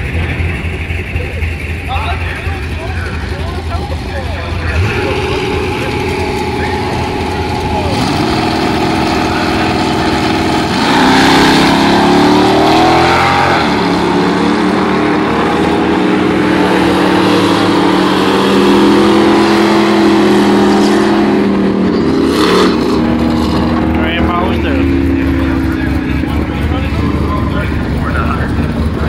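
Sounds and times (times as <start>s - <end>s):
car engine at high revs: 0.0s - 29.0s
car engine revving: 0.0s - 29.0s.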